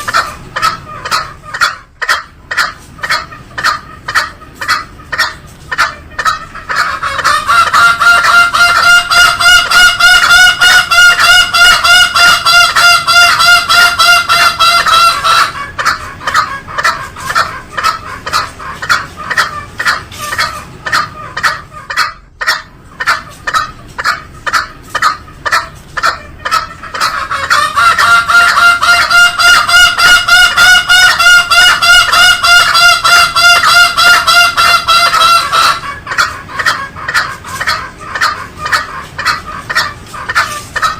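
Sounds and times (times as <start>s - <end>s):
junglefowl calling: 0.0s - 40.9s.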